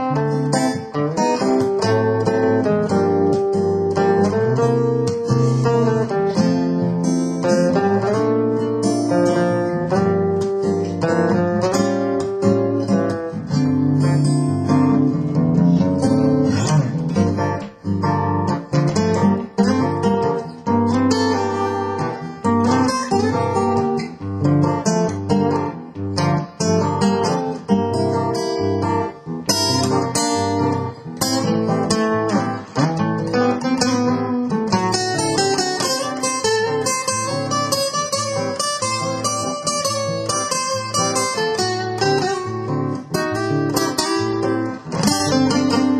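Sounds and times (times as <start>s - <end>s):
acoustic guitar music: 0.0s - 45.9s.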